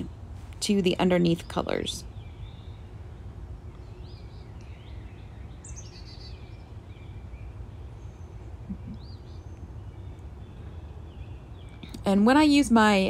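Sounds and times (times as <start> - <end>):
faint birds chirping: 0.0 - 13.0
steady low hum: 0.0 - 13.0.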